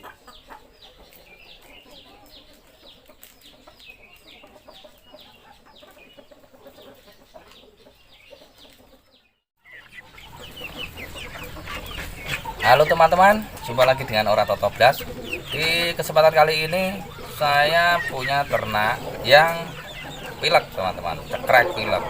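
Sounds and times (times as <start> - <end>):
chicks cheeping: 0.0 - 22.0.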